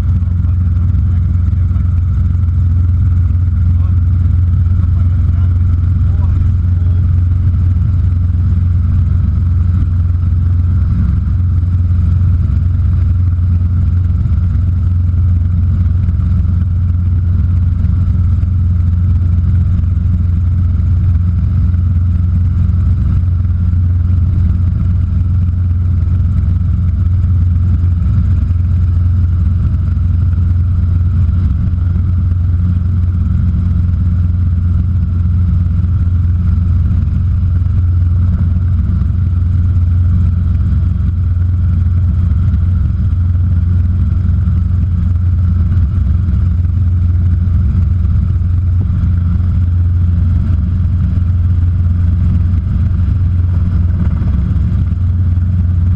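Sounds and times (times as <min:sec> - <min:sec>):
helicopter engine and rotor drone: 0:00.0 - 0:55.9
higher hum: 0:00.0 - 0:55.9.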